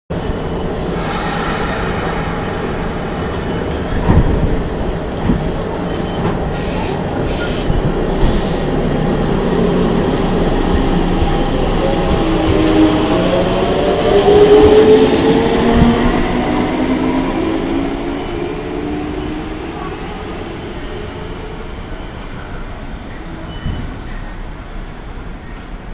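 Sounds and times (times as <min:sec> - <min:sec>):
wheels rumbling on rail: 0:00.1 - 0:25.9.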